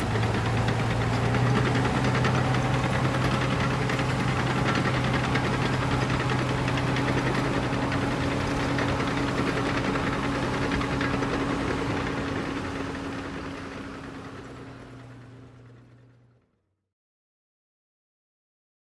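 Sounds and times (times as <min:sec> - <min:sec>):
bulldozer diesel engine running: 0:00.0 - 0:16.4.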